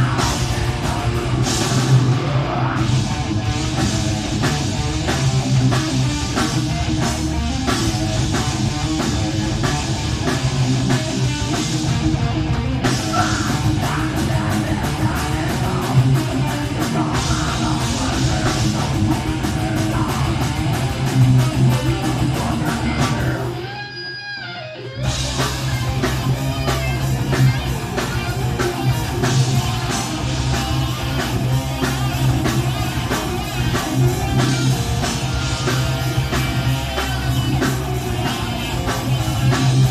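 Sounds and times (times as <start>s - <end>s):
pounding drum kit: 0.0s - 23.9s, 24.9s - 39.9s
bass guitar: 0.0s - 39.9s
distorted electric guitars: 0.0s - 39.9s.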